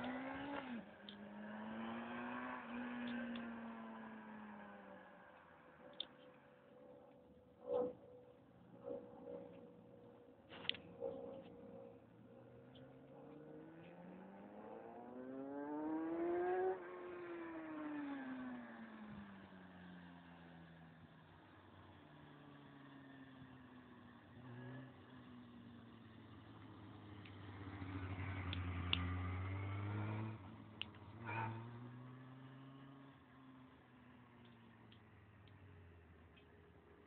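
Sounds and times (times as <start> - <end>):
motorcycle engine revving: 0.0 - 20.4, 22.2 - 33.6.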